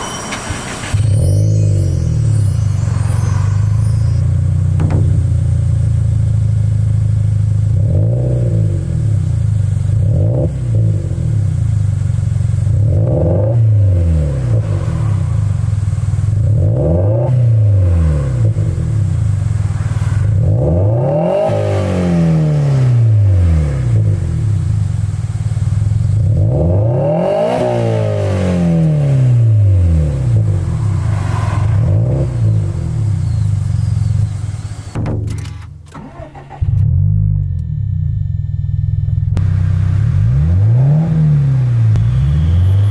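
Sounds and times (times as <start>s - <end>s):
car engine revving and idling: 0.8s - 35.0s, 36.0s - 42.9s.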